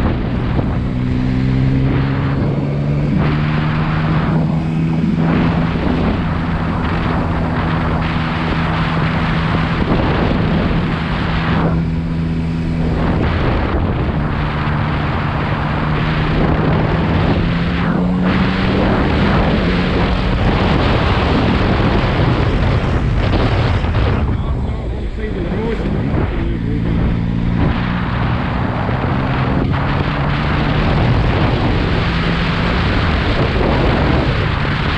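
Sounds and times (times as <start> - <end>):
motorcycle engine cruising: 0.0 - 34.9
wind rush on microphone: 0.0 - 34.9.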